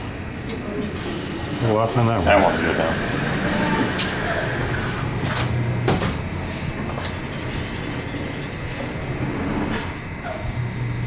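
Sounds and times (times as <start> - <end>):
claw machine motor hum: 0.0 - 11.0.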